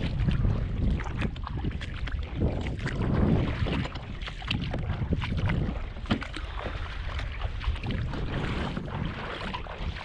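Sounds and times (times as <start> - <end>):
footsteps splashing in water: 0.0 - 10.0
wind on microphone: 0.0 - 10.0.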